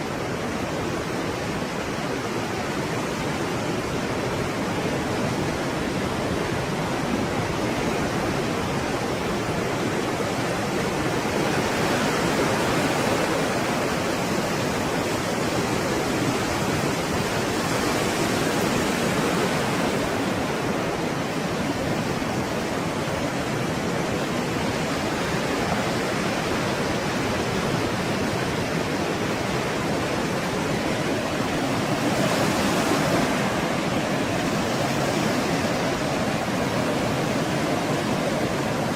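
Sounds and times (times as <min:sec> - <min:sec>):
stormy sea waves breaking: 0:00.0 - 0:38.9.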